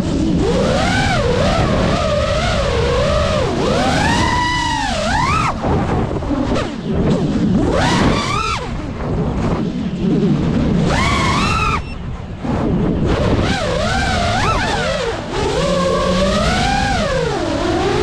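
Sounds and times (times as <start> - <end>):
drone motors whining: 0.0 - 18.0
rushing wind: 0.0 - 18.0.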